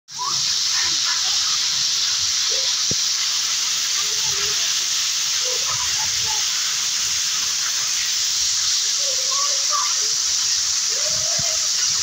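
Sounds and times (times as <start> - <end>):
heavy rain on concrete roof: 0.1 - 12.0.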